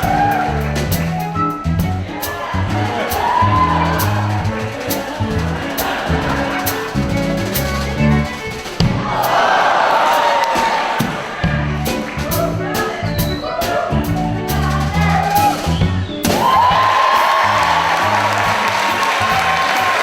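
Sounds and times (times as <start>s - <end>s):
audience cheering and whooping: 0.0s - 1.2s, 2.2s - 8.0s, 8.8s - 14.0s, 14.9s - 20.0s
live band music: 0.0s - 20.0s.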